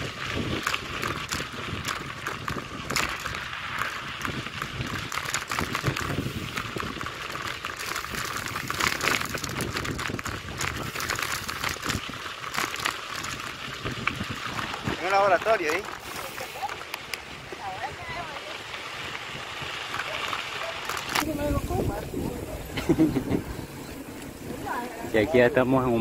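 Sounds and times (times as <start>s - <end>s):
bike clicks and rattles: 0.0s - 26.0s
bike tyres on gravel: 0.0s - 26.0s.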